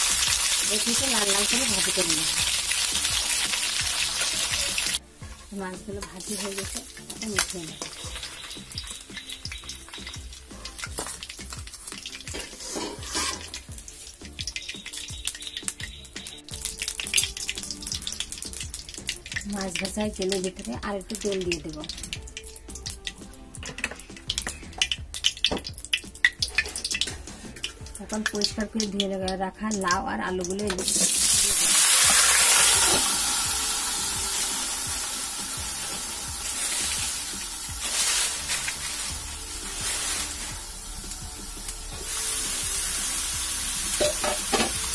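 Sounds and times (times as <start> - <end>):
oil hissing and crackling: 0.0 - 28.7, 29.8 - 44.9
background music with steady beat: 0.0 - 44.9.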